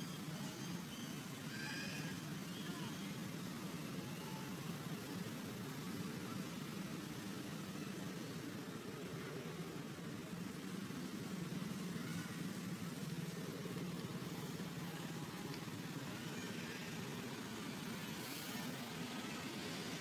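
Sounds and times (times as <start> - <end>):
faint outdoor hiss: 0.0 - 20.0
vehicle engine idling: 2.1 - 20.0.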